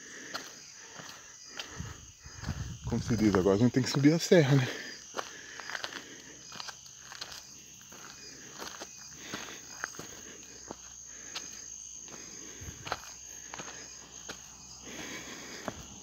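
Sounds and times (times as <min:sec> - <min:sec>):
insect trill: 0:00.0 - 0:16.0
footsteps: 0:00.2 - 0:16.0.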